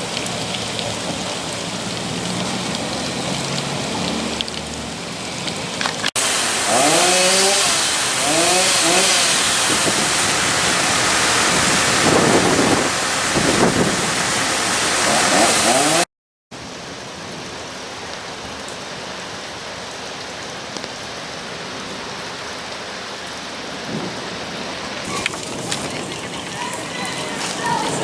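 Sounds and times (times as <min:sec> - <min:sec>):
quieter rain hiss: 0:00.0 - 0:15.7, 0:16.6 - 0:28.0
heavy rain hiss: 0:00.0 - 0:16.0, 0:16.6 - 0:28.0.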